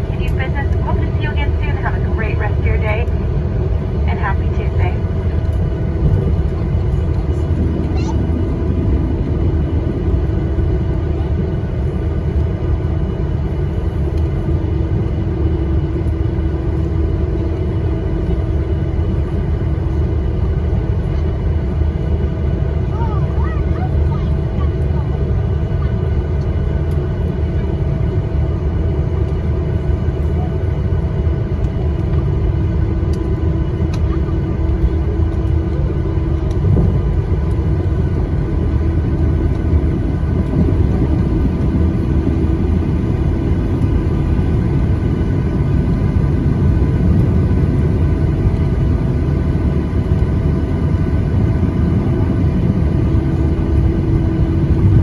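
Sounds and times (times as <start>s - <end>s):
jet engines idling: 0.0s - 55.0s
steady cabin hums: 0.0s - 55.0s.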